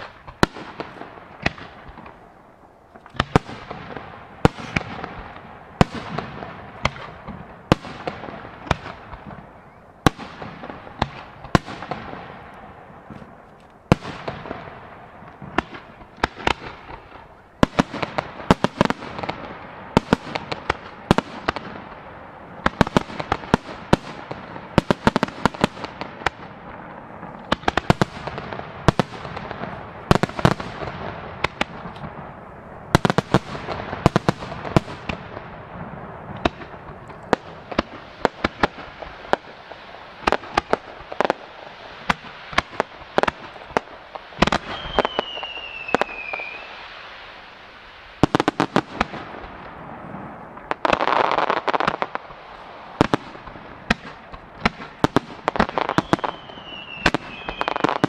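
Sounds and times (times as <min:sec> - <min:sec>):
fireworks bursting in sharp bangs: 0:00.0 - 0:58.0.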